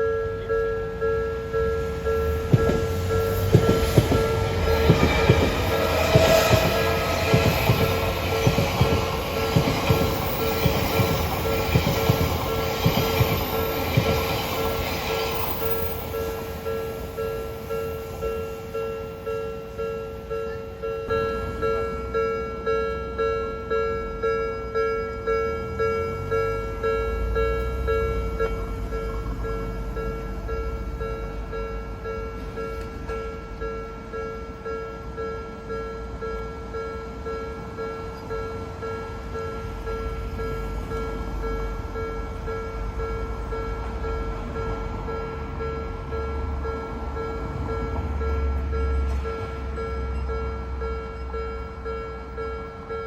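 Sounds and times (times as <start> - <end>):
level-crossing warning bell: 0.0 - 53.0
low rumble of passing train: 0.0 - 53.0.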